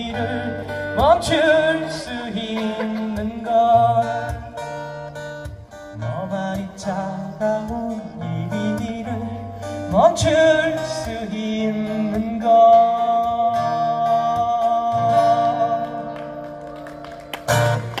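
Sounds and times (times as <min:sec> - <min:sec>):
person singing a ballad: 0:00.0 - 0:04.8, 0:06.0 - 0:16.2
acoustic guitar: 0:00.0 - 0:18.0.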